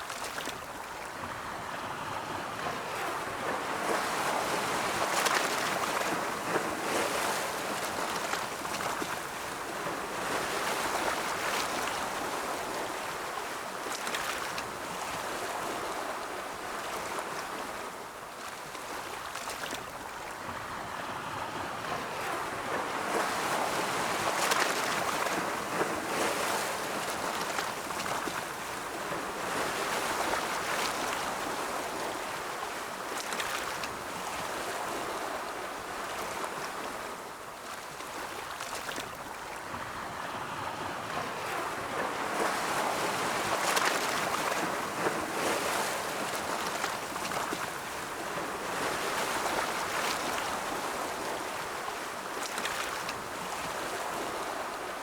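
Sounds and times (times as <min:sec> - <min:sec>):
ocean waves rolling in: 0:00.0 - 0:55.0.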